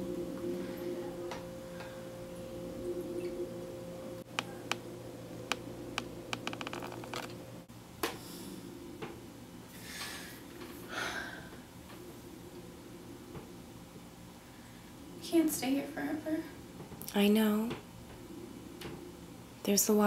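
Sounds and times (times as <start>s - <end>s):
low hum: 0.0s - 16.7s.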